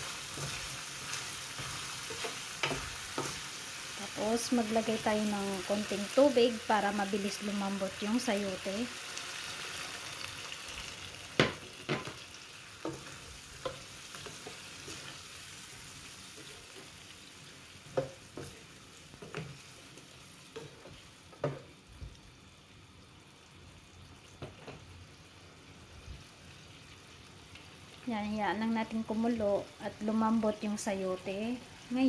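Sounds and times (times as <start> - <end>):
stew sizzling in a frying pan: 0.0 - 32.0.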